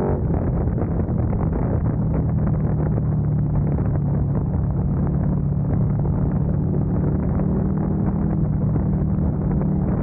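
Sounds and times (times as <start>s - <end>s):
motorcycle engine cruising: 0.0s - 10.0s
wind rushing over microphone: 0.0s - 10.0s.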